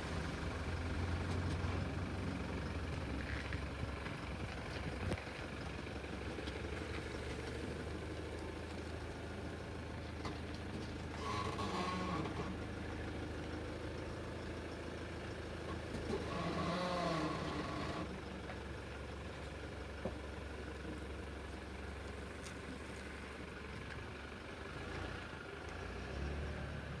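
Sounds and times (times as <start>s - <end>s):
vehicle low drone: 0.0s - 27.0s.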